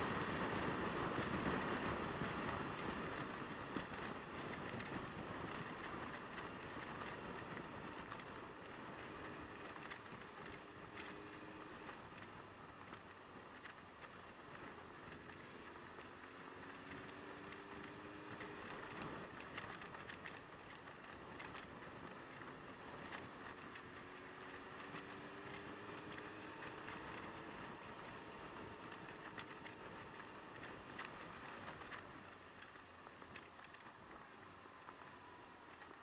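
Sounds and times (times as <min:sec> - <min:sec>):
faint motorcycle engine: 0:00.0 - 0:36.0
wind and road noise: 0:00.0 - 0:36.0.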